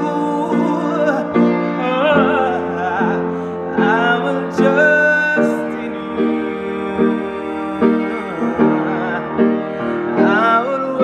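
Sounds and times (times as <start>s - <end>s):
man singing with vibrato: 0.0s - 11.0s
piano chords: 0.0s - 11.0s.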